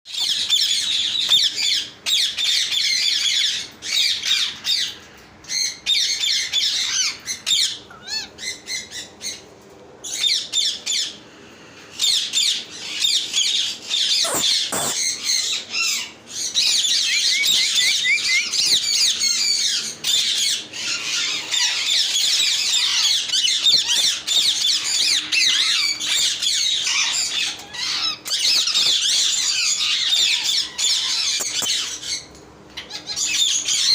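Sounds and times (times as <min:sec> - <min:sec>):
parrots squawking and chirping: 0:00.2 - 0:11.2, 0:11.9 - 0:33.9.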